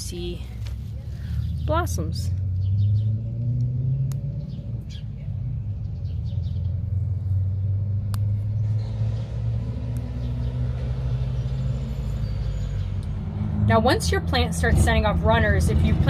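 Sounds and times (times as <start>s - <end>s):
low motor drone: 0.6s - 16.0s.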